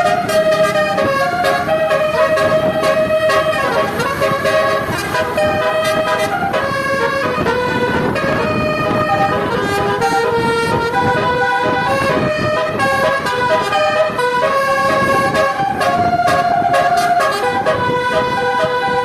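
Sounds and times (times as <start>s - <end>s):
musical air horn melody: 0.0s - 19.0s.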